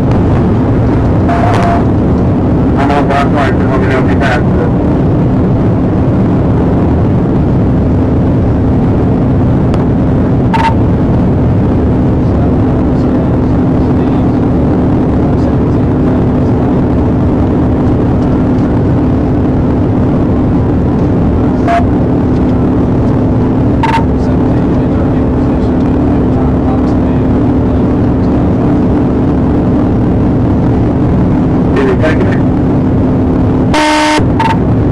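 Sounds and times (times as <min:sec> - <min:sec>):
car engine and road noise: 0:00.0 - 0:34.9
low hum: 0:00.0 - 0:34.9.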